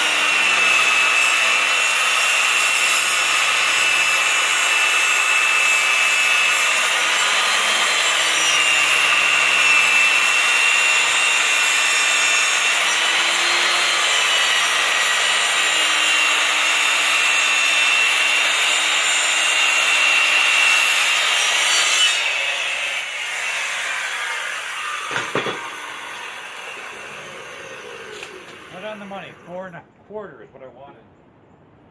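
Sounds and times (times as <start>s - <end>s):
circular saw cutting wood: 0.0s - 29.7s.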